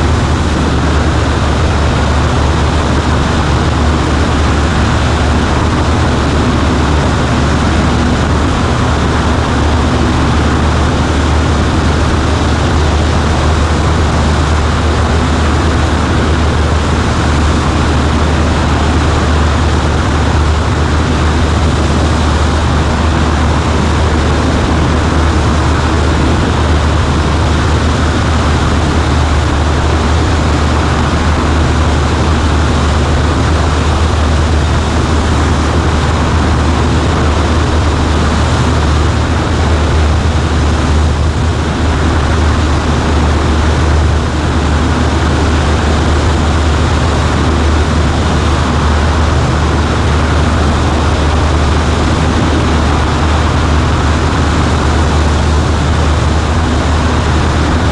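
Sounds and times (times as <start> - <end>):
light aircraft engine droning: 0.0 - 57.9.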